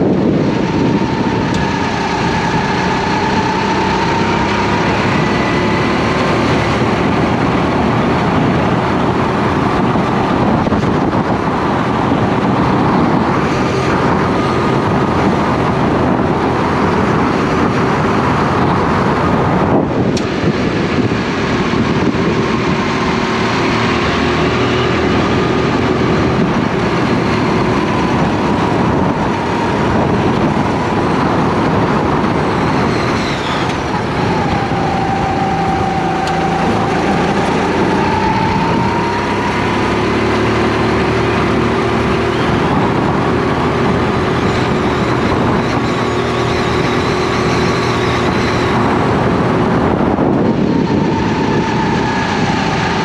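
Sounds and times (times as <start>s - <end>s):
kart engine running at speed: 0.0s - 53.0s
noisy rush: 0.0s - 53.0s.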